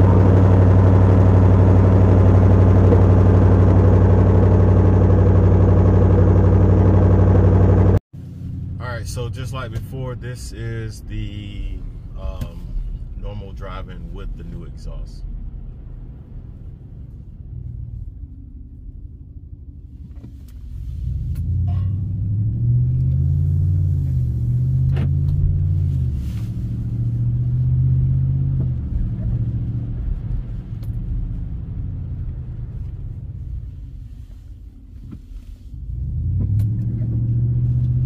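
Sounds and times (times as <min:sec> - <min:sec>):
truck exhaust drone inside cabin: 0:00.0 - 0:10.2, 0:17.4 - 0:38.0.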